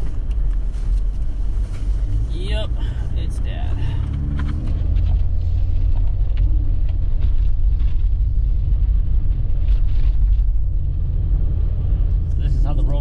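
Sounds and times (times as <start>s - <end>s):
car engine and tyres on slush: 0.0s - 13.0s.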